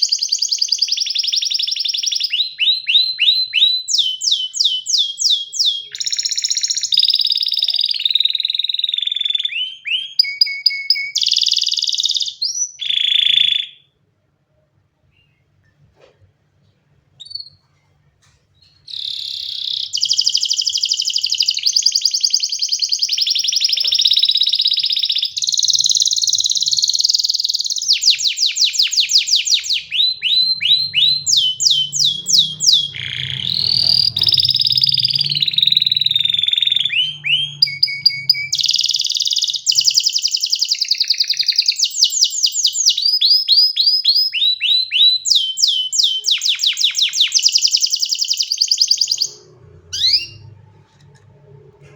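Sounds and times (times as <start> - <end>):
canary singing trills: 0.0 - 13.8, 18.6 - 50.8.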